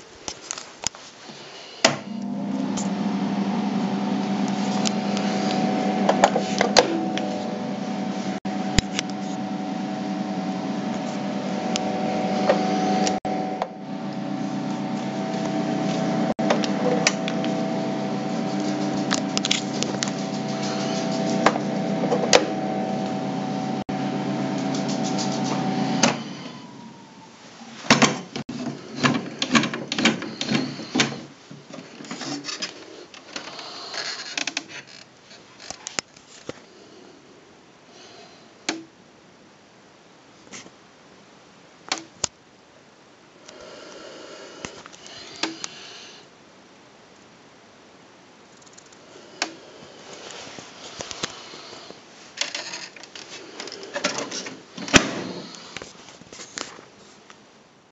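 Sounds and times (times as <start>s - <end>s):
projector cooling fan humming: 0.0s - 34.0s, 37.4s - 57.9s.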